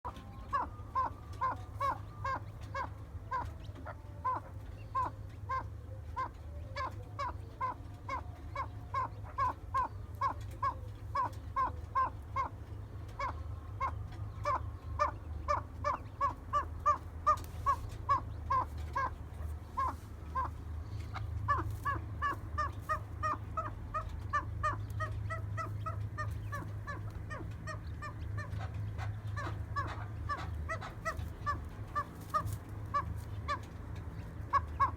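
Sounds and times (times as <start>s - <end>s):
geese honking: 0.0s - 34.9s
steady low rumble: 0.0s - 34.9s.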